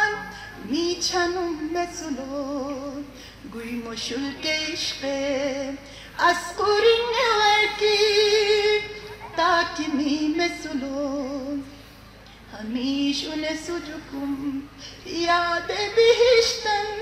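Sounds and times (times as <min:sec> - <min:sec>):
woman singing unaccompanied: 0:00.0 - 0:11.8, 0:12.4 - 0:17.0.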